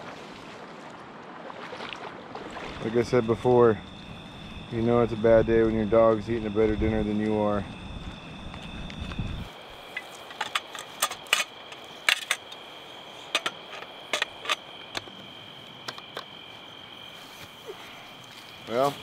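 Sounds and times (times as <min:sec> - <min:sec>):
crickets trilling: 0:01.5 - 0:19.0.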